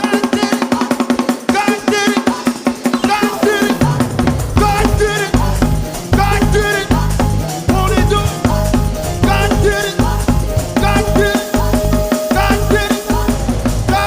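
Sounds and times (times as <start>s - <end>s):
band playing gospel music: 0.0s - 14.0s.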